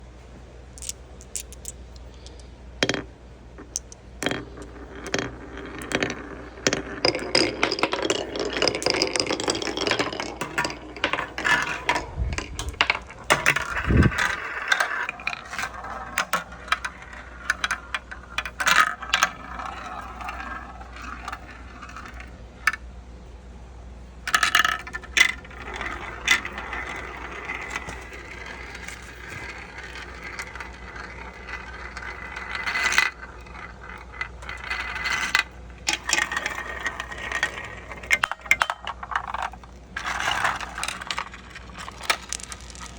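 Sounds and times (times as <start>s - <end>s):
marbles rolling and clattering: 0.7s - 22.9s, 24.3s - 42.9s.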